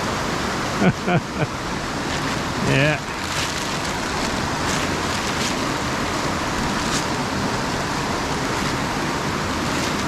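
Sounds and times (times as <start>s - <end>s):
creek rushing: 0.0s - 10.0s.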